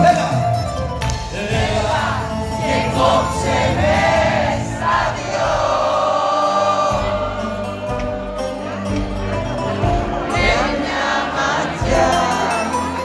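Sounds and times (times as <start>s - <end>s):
live band music: 0.0s - 13.0s
crowd singing along: 1.2s - 13.0s.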